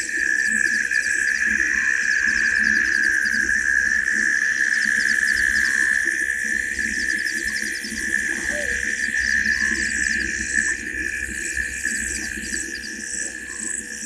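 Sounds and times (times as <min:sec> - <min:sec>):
insects droning: 0:00.0 - 0:14.0
insect chirps: 0:00.1 - 0:14.0.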